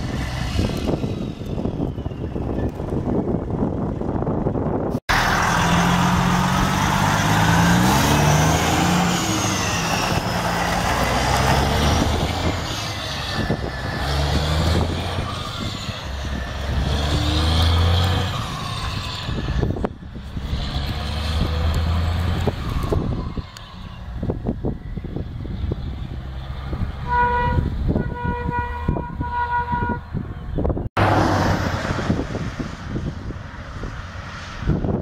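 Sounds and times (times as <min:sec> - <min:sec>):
diesel truck accelerating through gears: 0:00.0 - 0:35.0.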